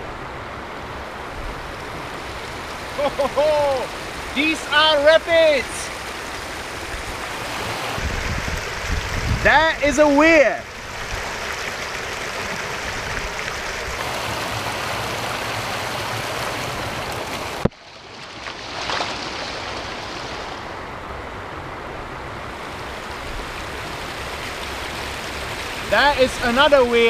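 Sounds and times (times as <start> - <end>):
water rushing over rapids: 0.0 - 27.0.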